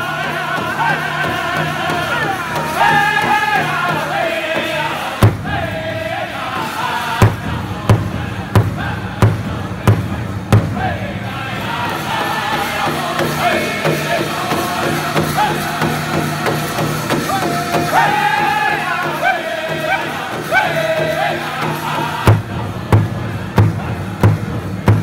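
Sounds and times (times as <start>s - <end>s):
group singing in high voices: 0.0s - 24.4s
large drum beats: 0.2s - 25.0s.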